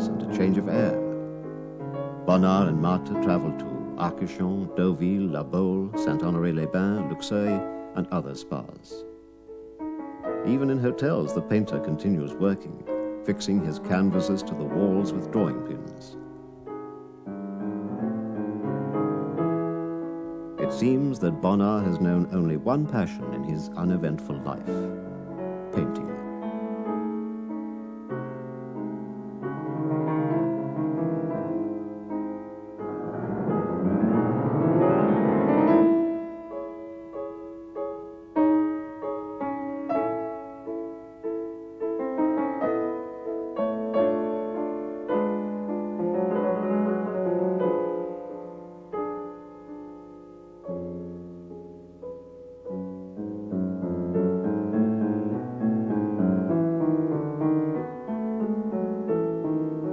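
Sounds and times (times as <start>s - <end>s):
solo piano music: 0.0s - 59.9s.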